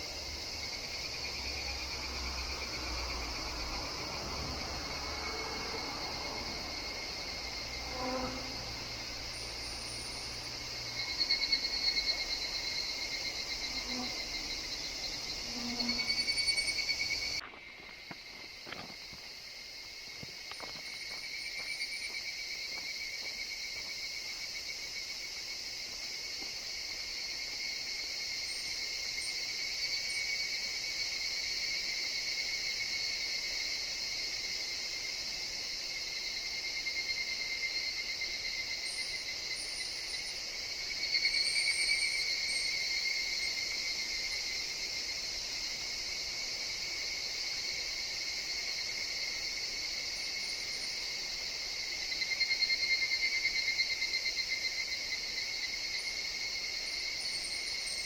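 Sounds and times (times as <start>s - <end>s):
cicada chorus: 0.0s - 58.0s.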